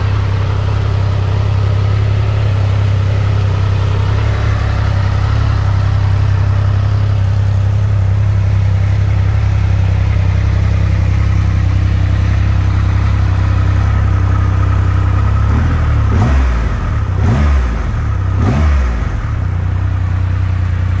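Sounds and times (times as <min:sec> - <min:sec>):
engine revving: 0:00.0 - 0:20.1
motorcycle engine idling: 0:00.0 - 0:21.0.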